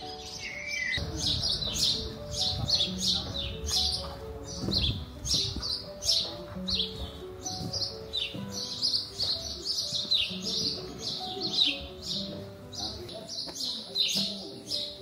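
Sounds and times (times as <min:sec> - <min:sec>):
small birds chirping: 0:00.0 - 0:15.0
soft background music: 0:00.0 - 0:15.0.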